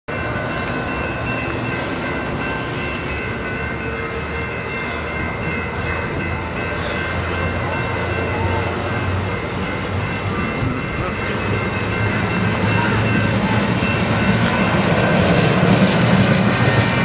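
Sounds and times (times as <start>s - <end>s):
train wheels rumbling on rails: 0.1s - 17.0s.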